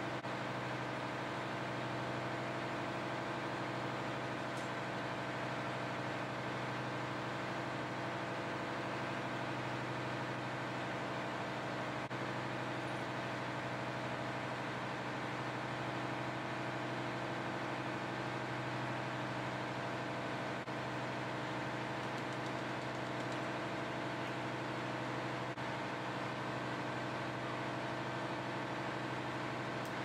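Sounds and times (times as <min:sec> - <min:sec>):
engine room machinery hum: 0:00.0 - 0:30.0.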